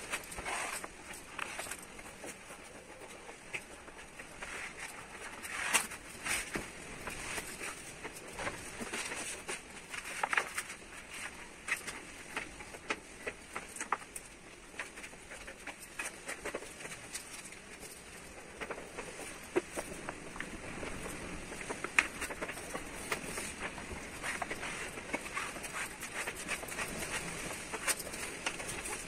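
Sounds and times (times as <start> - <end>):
vinyl film rustling and crinkling: 0.0 - 29.0.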